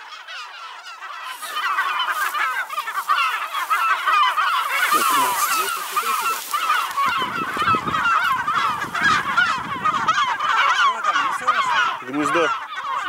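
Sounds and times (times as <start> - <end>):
terns and gulls calling: 0.0 - 13.0.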